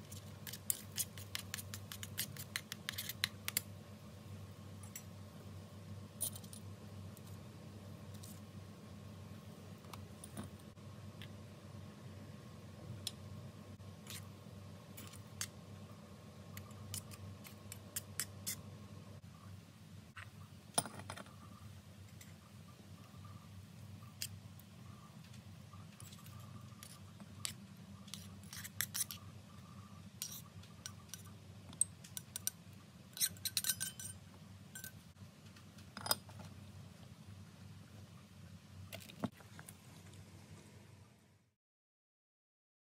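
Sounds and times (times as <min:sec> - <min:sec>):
steady low hum: 0:00.0 - 0:41.6.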